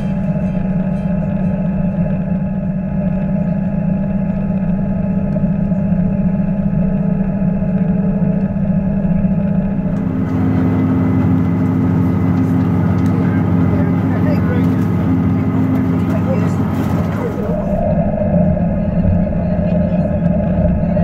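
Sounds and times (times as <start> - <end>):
diesel engine hum: 0.0 - 21.0
track rumble: 0.0 - 21.0.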